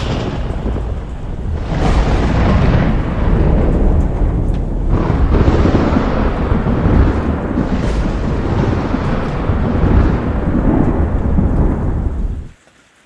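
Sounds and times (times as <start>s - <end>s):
heavy rain: 0.0s - 12.6s
rolling thunder: 0.0s - 12.6s.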